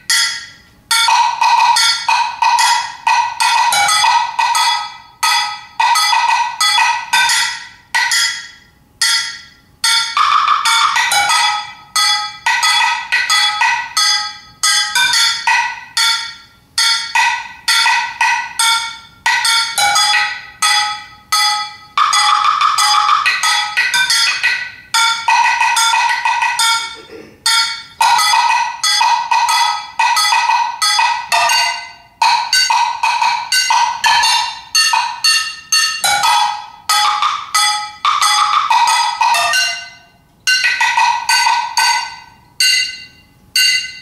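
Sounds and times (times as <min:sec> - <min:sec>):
sticks striking metal objects: 0:00.0 - 0:44.0.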